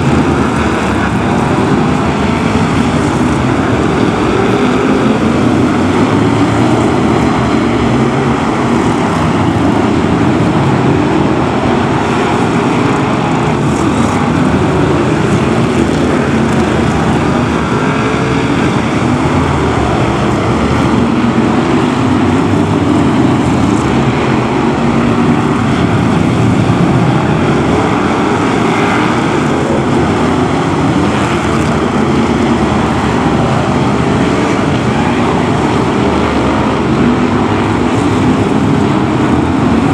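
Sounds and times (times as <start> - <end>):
racing car engines: 0.0 - 39.9.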